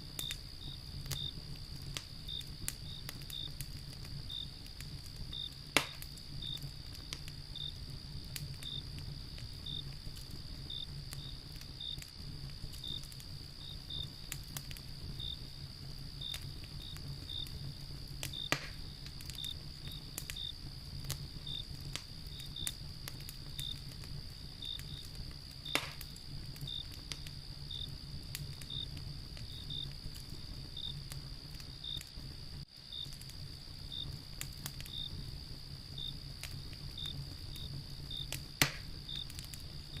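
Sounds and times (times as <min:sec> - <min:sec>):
crickets chirping: 0:00.0 - 0:40.0
wood fire crackling: 0:00.0 - 0:40.0
insect trill: 0:00.1 - 0:40.0.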